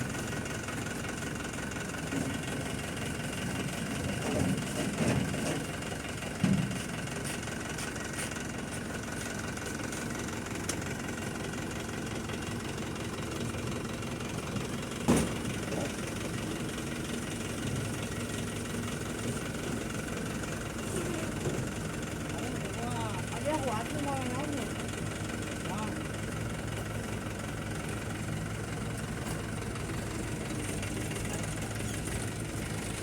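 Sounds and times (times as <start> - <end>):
machinery engine idling: 0.0 - 33.0.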